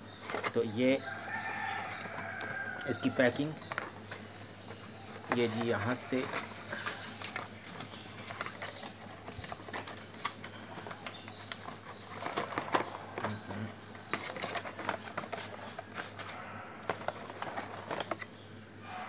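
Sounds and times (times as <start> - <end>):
cardboard box handling rustles: 0.1 - 18.3.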